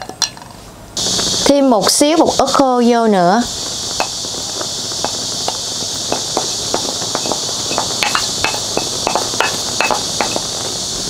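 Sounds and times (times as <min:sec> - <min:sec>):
steady high hiss: 0:00.8 - 0:11.0.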